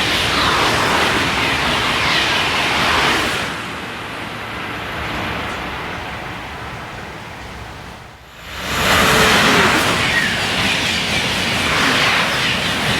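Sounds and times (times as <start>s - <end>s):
high-speed train passing: 0.0s - 12.9s.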